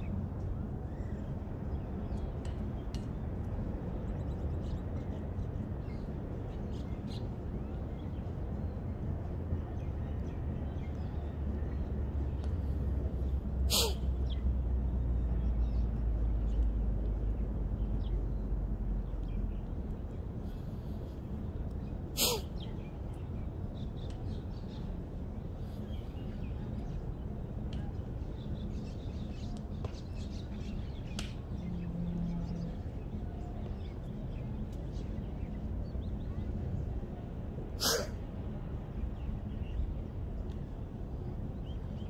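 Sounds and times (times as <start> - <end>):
wind rumble on microphone: 0.0 - 42.0.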